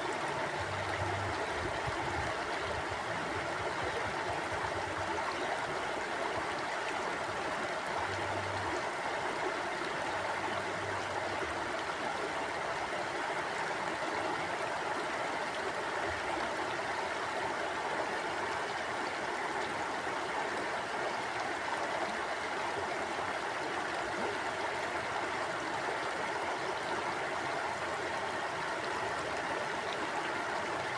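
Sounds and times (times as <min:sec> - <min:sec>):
river water flowing over rocks: 0:00.0 - 0:30.9.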